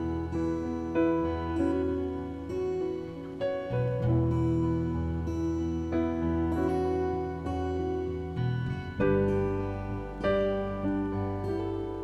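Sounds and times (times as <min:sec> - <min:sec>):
soft acoustic guitar music: 0:00.0 - 0:12.0.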